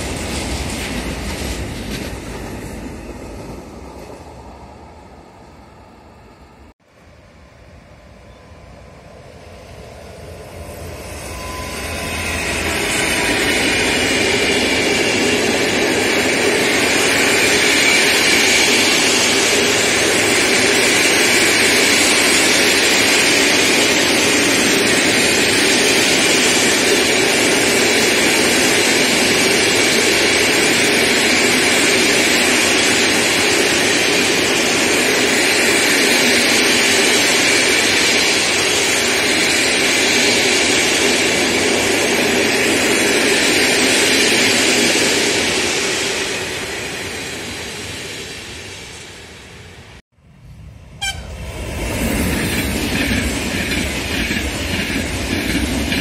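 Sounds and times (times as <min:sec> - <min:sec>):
steel wheels rolling on rail: 0:00.0 - 0:06.7, 0:08.0 - 0:50.0, 0:50.6 - 0:56.0
electric locomotive passing: 0:00.0 - 0:56.0.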